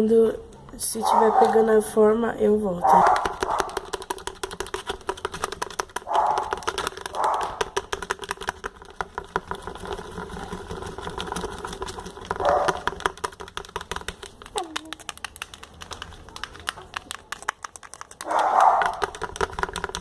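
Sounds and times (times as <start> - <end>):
slime being stirred in a pot: 0.8 - 20.0.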